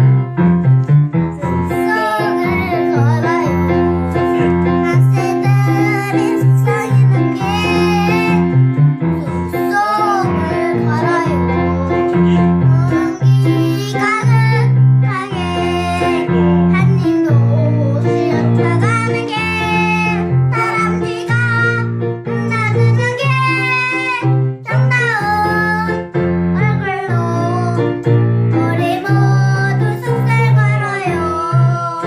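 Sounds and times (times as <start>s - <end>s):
instrumental accompaniment: 0.0s - 32.0s
child singing: 1.3s - 8.5s, 9.2s - 32.0s.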